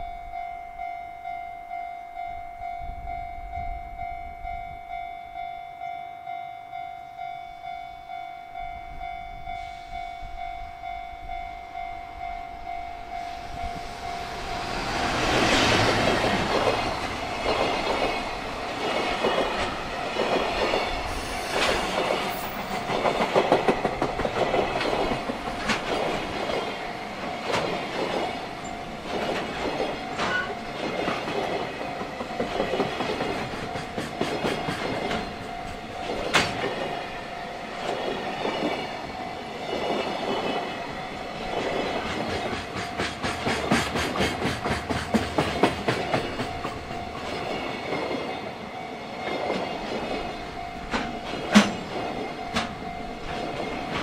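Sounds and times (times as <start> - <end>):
train rolling rumble: 8.5 - 54.0
train wheels clicking on rail joints: 9.5 - 54.0.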